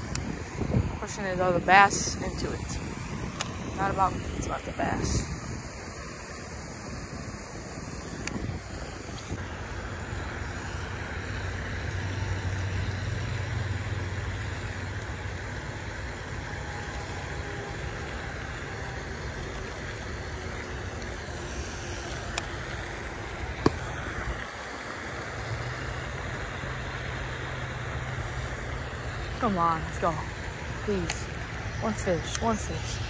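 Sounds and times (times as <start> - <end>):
pond fountain splashing: 0.0 - 33.0.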